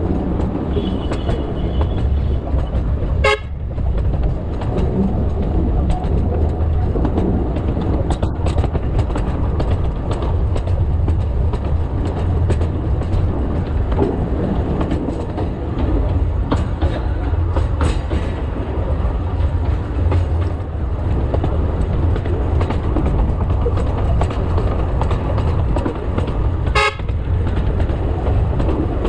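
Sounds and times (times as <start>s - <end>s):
train rumbling: 0.0s - 29.0s
wheels clicking over rails: 0.0s - 29.0s.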